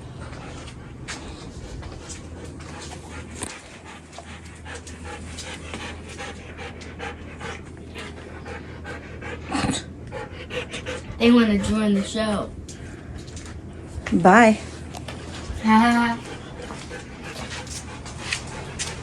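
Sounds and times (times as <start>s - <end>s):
dog panting: 0.0s - 13.7s, 14.6s - 19.0s
steady low hum: 0.0s - 19.0s.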